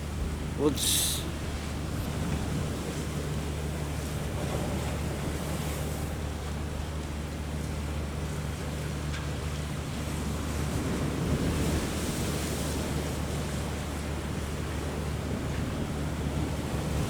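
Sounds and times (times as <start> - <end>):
choppy sea water: 0.0 - 17.0.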